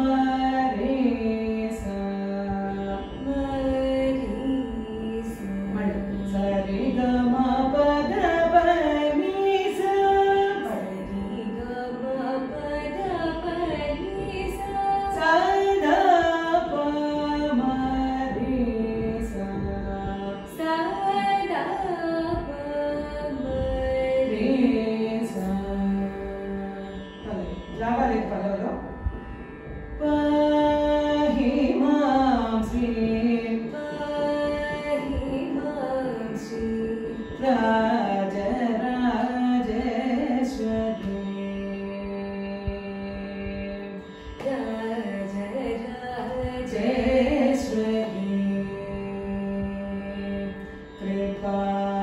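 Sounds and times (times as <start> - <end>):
woman singing: 0.0 - 28.9, 30.0 - 52.0
plucked veena: 0.0 - 52.0.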